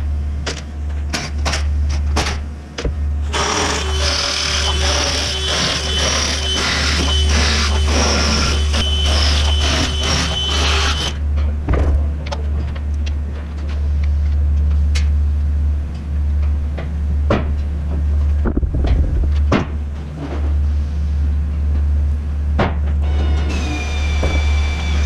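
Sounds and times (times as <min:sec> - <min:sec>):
low machine drone: 0:02.8 - 0:25.0.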